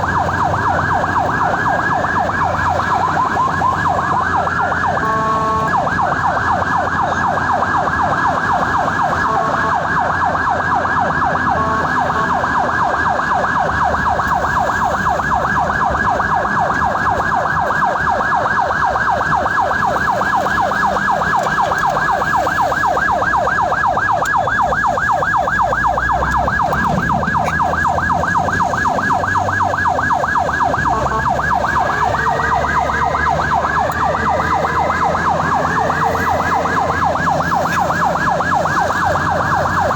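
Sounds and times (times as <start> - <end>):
ambulance siren: 0.0 - 39.9
vehicle rumble: 0.0 - 39.9.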